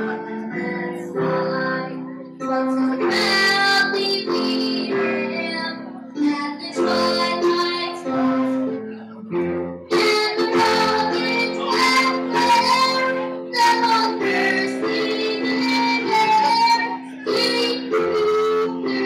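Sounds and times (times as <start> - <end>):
girl singing into microphone: 0.0 - 9.0, 9.9 - 19.0
instrumental accompaniment: 0.0 - 19.0.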